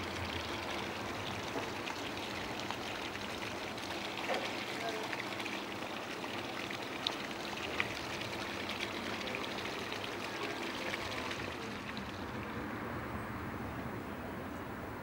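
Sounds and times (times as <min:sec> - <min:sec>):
water lapping around boats: 0:00.0 - 0:15.0.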